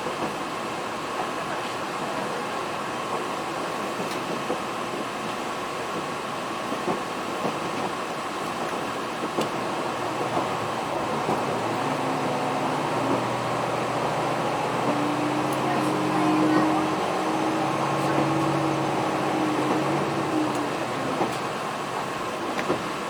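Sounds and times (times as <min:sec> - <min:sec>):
diesel train rumbling: 0:00.0 - 0:23.0.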